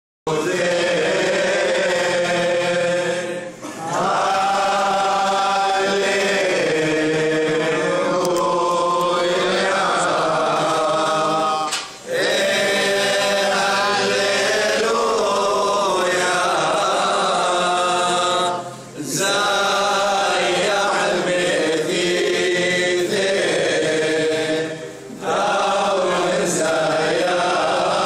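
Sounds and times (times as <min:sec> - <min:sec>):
men's choir chanting a hymn: 0:00.3 - 0:28.0.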